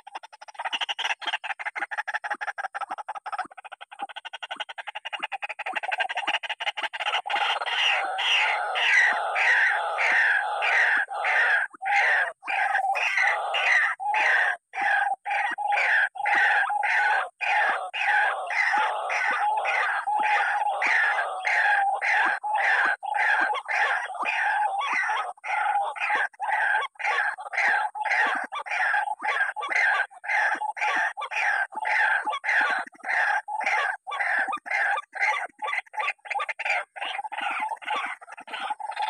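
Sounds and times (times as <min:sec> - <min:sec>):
bird harsh croaking call: 0:00.0 - 0:39.0.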